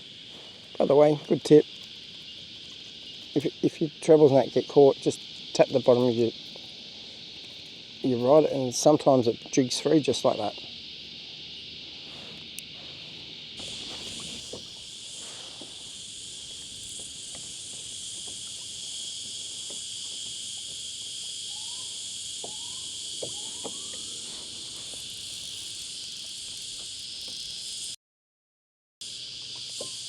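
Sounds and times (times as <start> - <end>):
cicadas droning: 0.0 - 28.0, 29.0 - 30.0.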